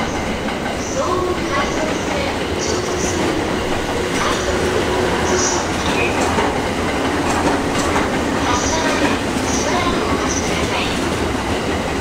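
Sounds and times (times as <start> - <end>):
train wheels rumbling and clicking: 0.0 - 12.0.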